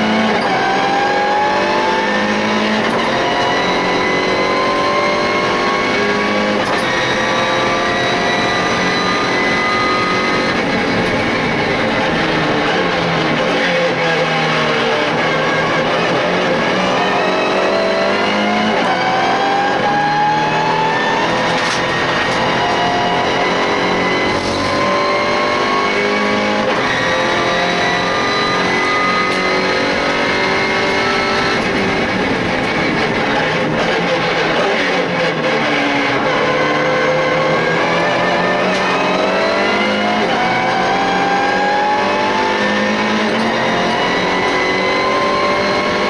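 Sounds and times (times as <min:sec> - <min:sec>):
race car engine accelerating: 0:00.0 - 0:46.0.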